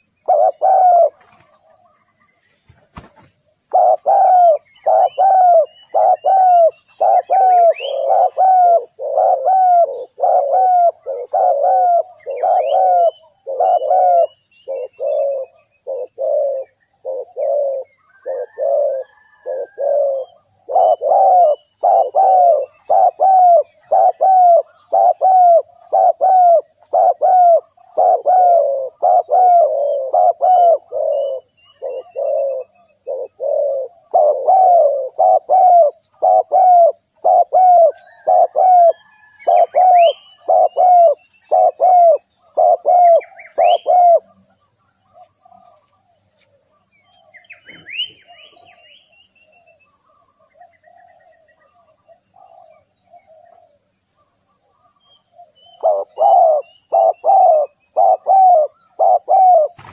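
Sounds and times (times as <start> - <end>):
dove cooing: 0.0 - 2.0, 2.7 - 44.5, 50.1 - 53.8, 54.7 - 59.9
small birds chirping: 0.0 - 59.9.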